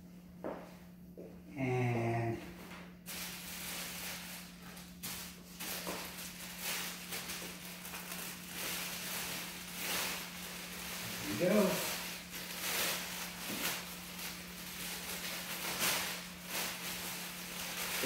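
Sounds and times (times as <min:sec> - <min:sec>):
plastic bag crinkling: 0:03.1 - 0:18.0.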